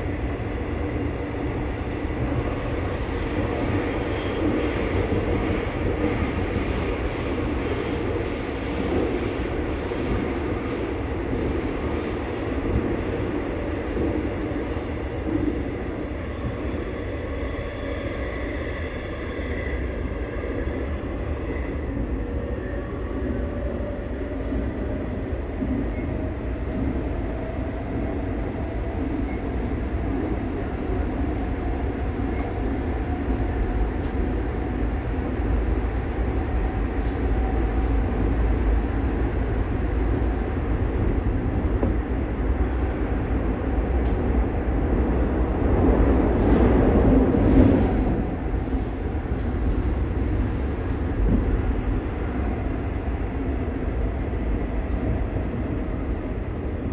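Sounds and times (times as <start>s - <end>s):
train wheels rumbling on track: 0.0s - 56.9s.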